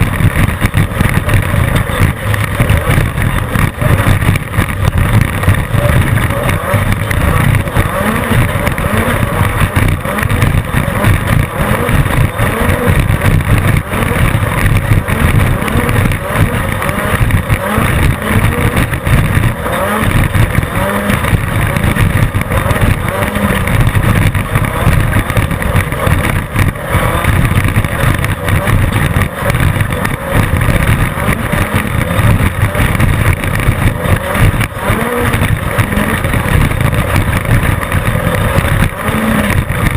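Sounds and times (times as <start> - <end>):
race car engine running loud: 0.0 - 39.9.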